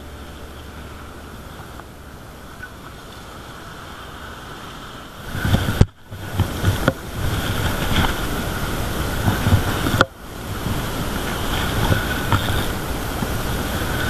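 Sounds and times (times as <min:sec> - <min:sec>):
surf washing against rocks: 0:00.0 - 0:14.0
wind buffeting microphone: 0:00.0 - 0:14.0.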